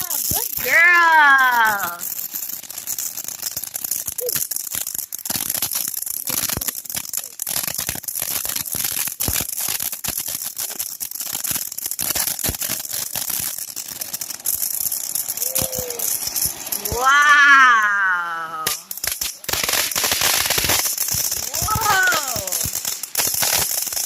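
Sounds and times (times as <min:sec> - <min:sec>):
firework crackling: 0:00.0 - 0:24.0.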